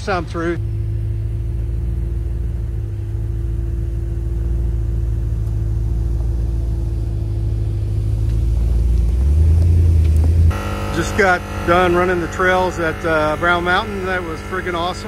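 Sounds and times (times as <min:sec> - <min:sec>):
truck engine running low: 0:00.0 - 0:15.0.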